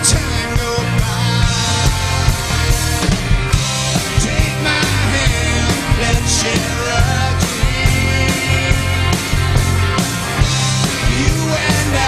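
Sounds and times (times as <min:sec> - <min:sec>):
drum kit beat: 0:00.0 - 0:12.0
electric guitar: 0:00.0 - 0:12.0
live rock band playing: 0:00.0 - 0:12.0.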